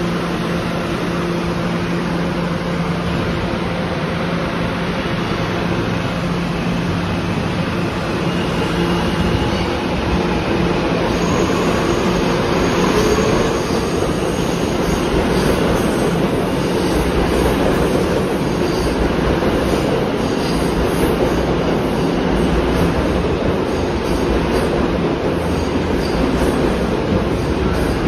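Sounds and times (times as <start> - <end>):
subway train wheels on rail: 0.0 - 28.0.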